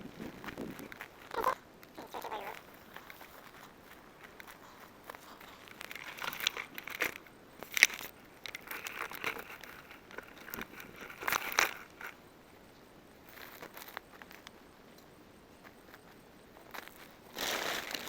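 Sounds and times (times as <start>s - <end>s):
rustling and crinkling handling: 0.0s - 18.0s.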